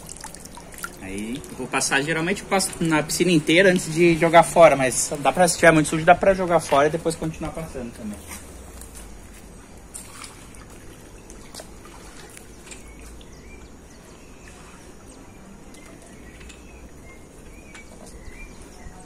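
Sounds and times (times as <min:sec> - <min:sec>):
faint birds chirping: 0:00.0 - 0:19.0
pool water trickling and sloshing: 0:00.0 - 0:19.0.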